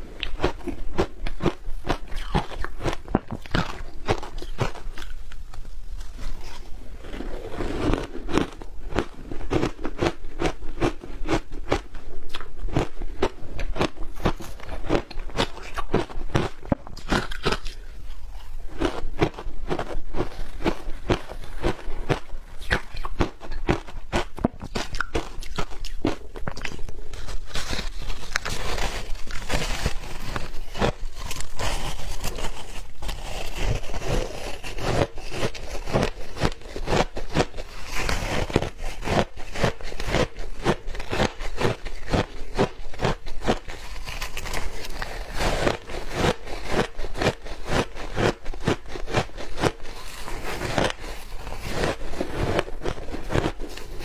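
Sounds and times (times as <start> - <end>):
ice being chewed crunching: 0.1 - 54.0.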